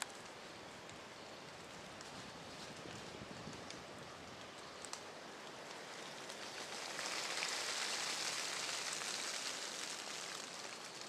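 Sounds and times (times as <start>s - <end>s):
rain pattering on leaves: 0.0s - 11.0s.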